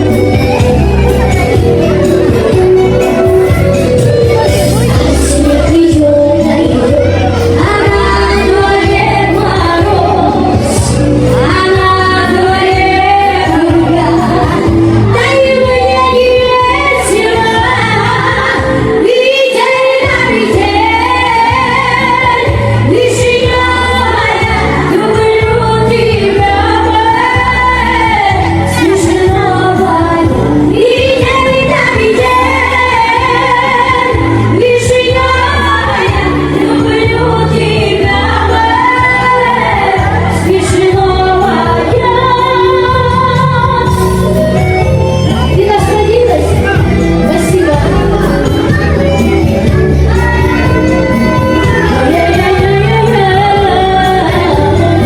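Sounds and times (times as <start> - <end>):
pop backing track with bass beat: 0.0 - 55.0
woman singing: 0.0 - 55.0.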